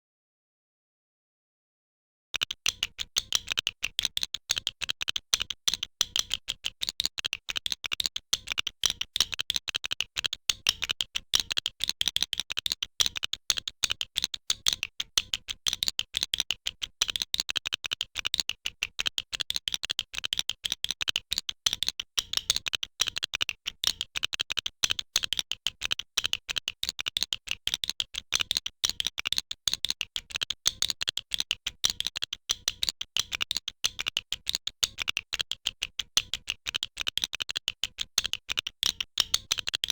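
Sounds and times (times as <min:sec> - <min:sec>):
plastic bricks clicking together: 0:02.4 - 0:39.9.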